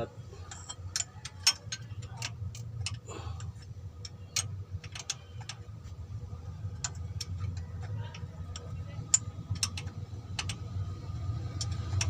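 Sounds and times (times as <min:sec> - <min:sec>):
steady low hum: 0:00.0 - 0:12.0
hand tools clicking on bolts: 0:00.4 - 0:05.7, 0:06.7 - 0:10.8, 0:11.4 - 0:12.0.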